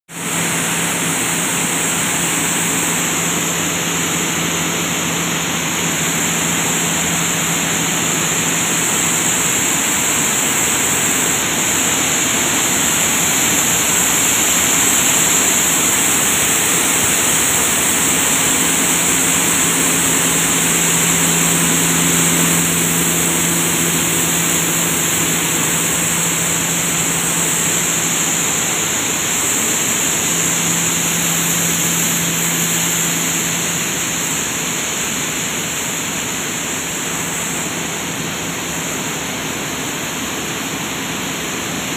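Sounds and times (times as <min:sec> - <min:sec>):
grain cleaning machines running: 0:00.1 - 0:41.9.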